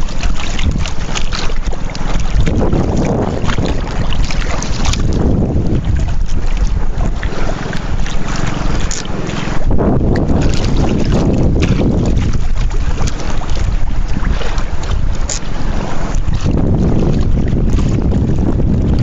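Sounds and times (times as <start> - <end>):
sea water splashing: 0.0 - 19.0
wind buffeting microphone: 0.0 - 19.0.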